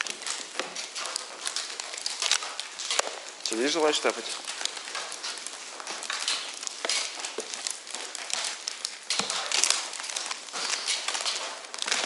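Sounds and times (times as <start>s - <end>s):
debris crunching underfoot: 0.0s - 12.0s.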